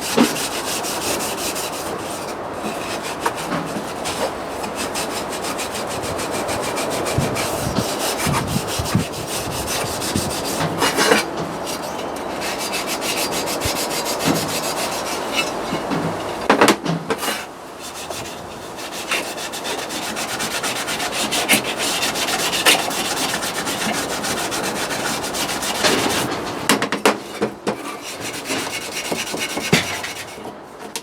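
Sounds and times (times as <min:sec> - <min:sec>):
rubbing and scraping strokes: 0:00.0 - 0:16.1, 0:17.2 - 0:26.3, 0:27.2 - 0:31.0.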